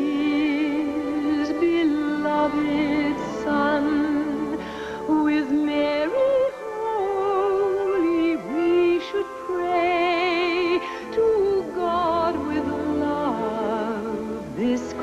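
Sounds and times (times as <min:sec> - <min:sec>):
musical accompaniment: 0:00.0 - 0:15.0
person singing with vibrato: 0:00.0 - 0:15.0.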